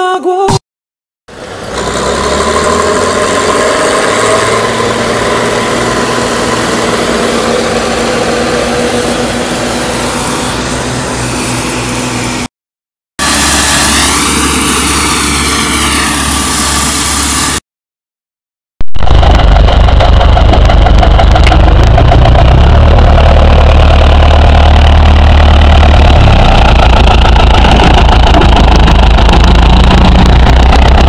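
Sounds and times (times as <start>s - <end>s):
farm machinery engines running: 1.3s - 12.5s, 13.2s - 17.6s, 19.0s - 31.0s.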